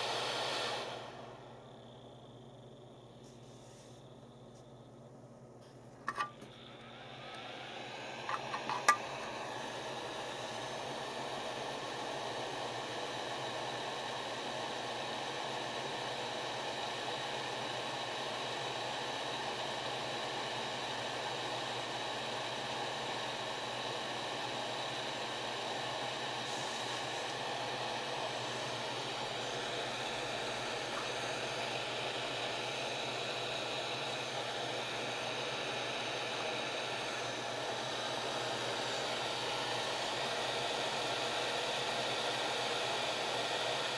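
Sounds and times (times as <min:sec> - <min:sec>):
faint high whine: 0:00.0 - 0:43.9
hot-air gun fan blowing: 0:00.0 - 0:43.9.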